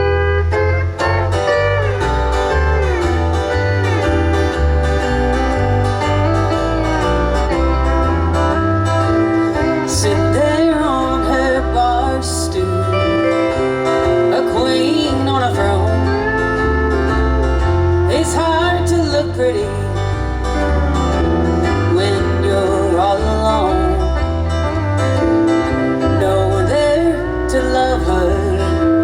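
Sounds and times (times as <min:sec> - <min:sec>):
country band music: 0:00.0 - 0:29.0.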